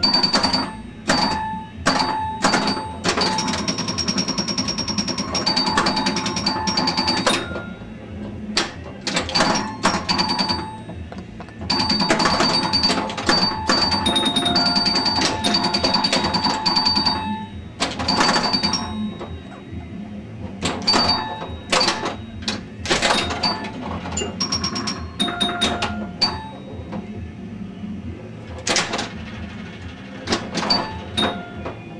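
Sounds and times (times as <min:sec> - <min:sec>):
pinball sound-effect tones: 0:00.0 - 0:08.0, 0:08.6 - 0:19.9, 0:20.5 - 0:27.0, 0:28.6 - 0:31.9
pinball bumpers clacking: 0:00.0 - 0:27.2, 0:28.5 - 0:31.9.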